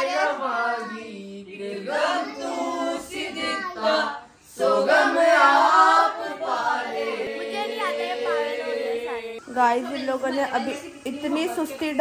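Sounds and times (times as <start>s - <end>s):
people singing unaccompanied: 0.0s - 11.7s.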